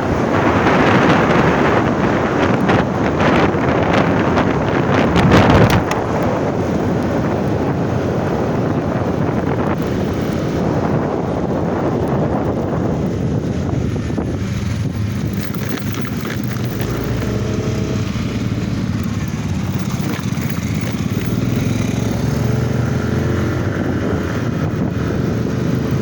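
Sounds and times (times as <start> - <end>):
vehicle engine running: 0.0 - 26.0
wind buffeting microphone: 0.0 - 26.0.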